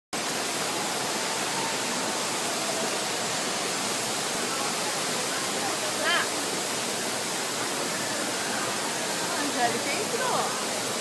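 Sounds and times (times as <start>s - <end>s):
waterfall rushing: 0.2s - 11.0s.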